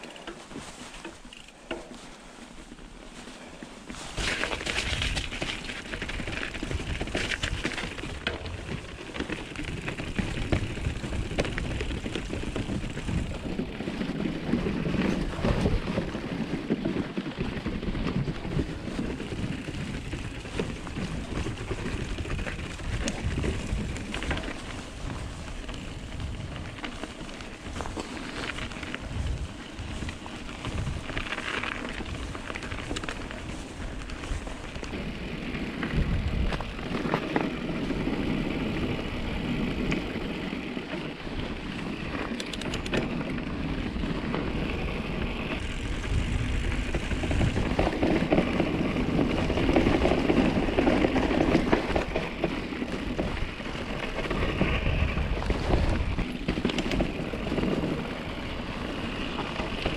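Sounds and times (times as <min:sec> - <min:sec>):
bike knocking and rattling: 0:00.0 - 0:59.9
bike tyres rolling over snow: 0:00.0 - 0:59.9.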